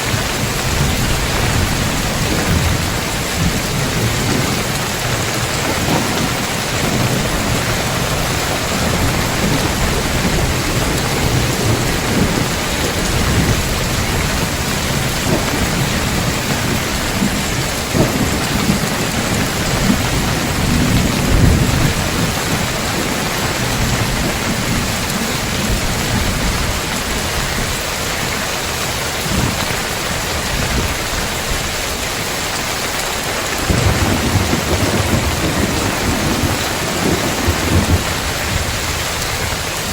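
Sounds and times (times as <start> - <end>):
thunder crack: 0.0 - 26.8, 33.6 - 39.9
thunder rumbling: 0.0 - 32.0, 33.1 - 39.9
heavy rain on roof tiles: 0.0 - 39.9.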